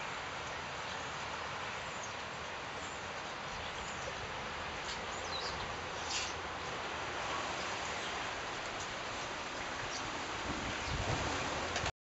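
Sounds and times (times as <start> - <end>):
outdoor background hiss: 0.0 - 11.9.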